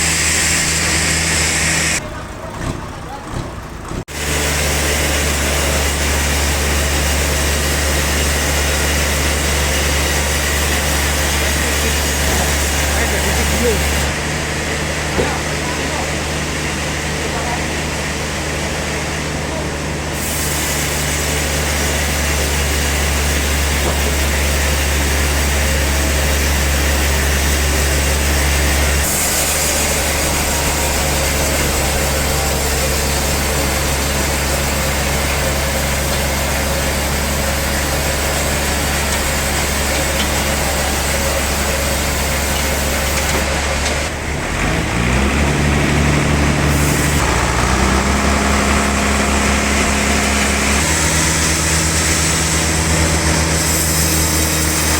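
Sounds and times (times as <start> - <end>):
saw cutting hiss: 0.0 - 2.0, 4.1 - 14.2, 20.1 - 45.4, 46.5 - 54.9
sawmill motor hum: 0.0 - 2.1, 3.7 - 54.9.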